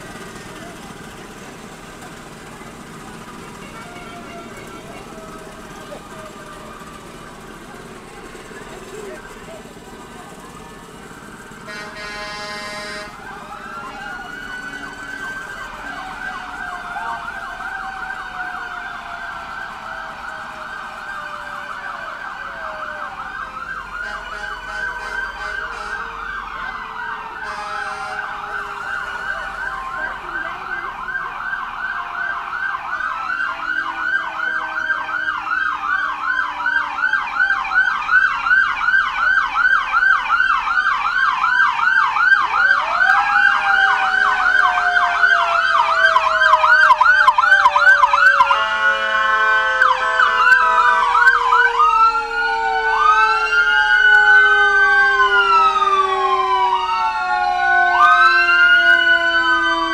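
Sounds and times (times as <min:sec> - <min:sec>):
emergency sirens yelping and wailing: 0:00.0 - 0:59.9.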